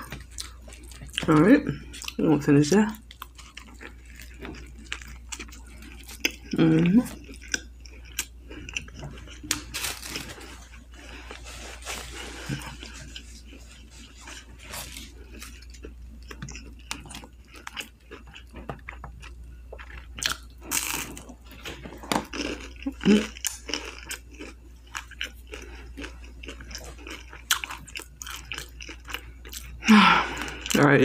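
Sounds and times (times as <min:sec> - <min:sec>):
person chewing crunchy food: 0:00.0 - 0:02.3, 0:03.0 - 0:30.9.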